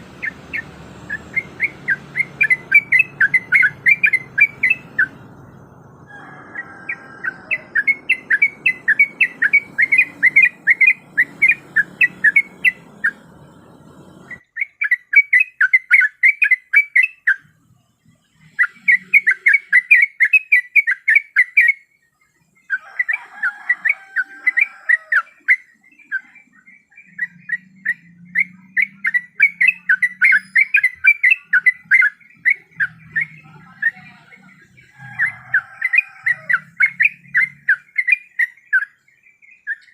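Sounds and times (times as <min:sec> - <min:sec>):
bird singing whistled chirps: 0:00.1 - 0:17.5, 0:18.4 - 0:39.9.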